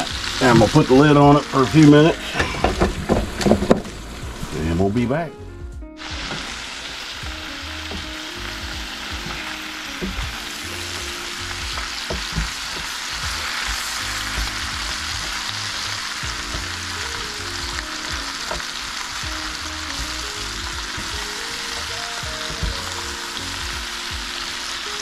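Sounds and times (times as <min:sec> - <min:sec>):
food sizzling in a skillet: 0:00.0 - 0:02.8, 0:06.0 - 0:25.0.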